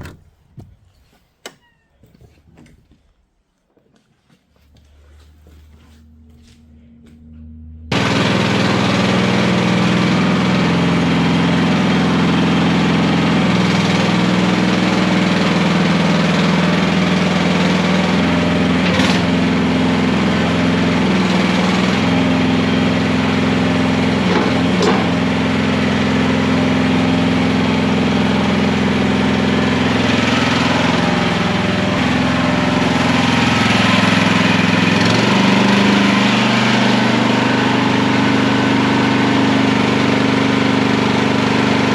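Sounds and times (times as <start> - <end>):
skid steer engine running: 4.8 - 41.9.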